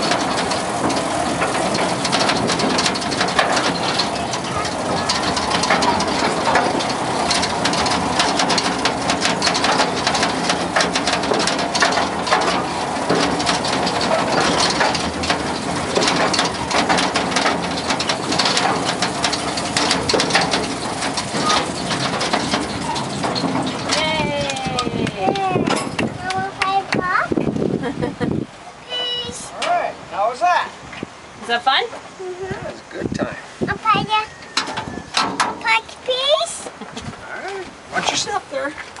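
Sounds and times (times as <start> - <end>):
train rattling and clattering: 0.0 - 30.1, 30.8 - 39.0
steady rushing noise: 0.0 - 39.0.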